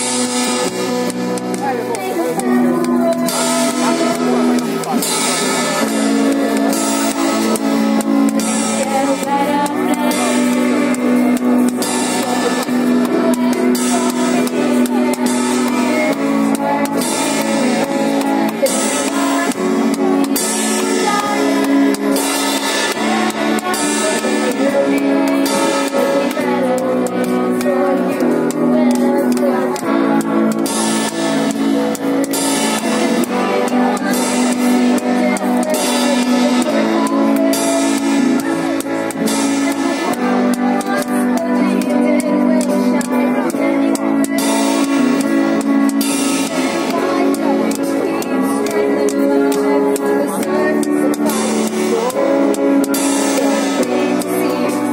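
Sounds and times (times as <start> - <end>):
cymbal strikes: 0.0 - 42.9, 44.0 - 49.7
guitar and drums music: 0.0 - 54.9.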